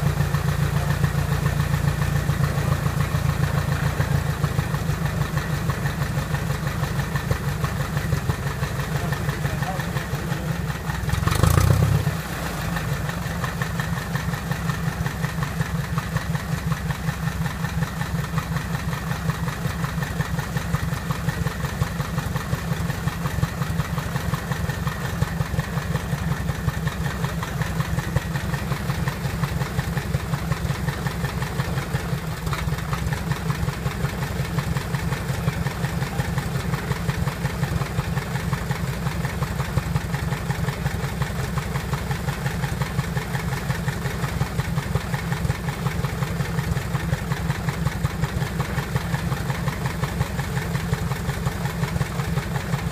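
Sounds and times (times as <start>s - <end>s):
aircraft piston engine idling: 0.0s - 11.4s, 12.0s - 52.9s.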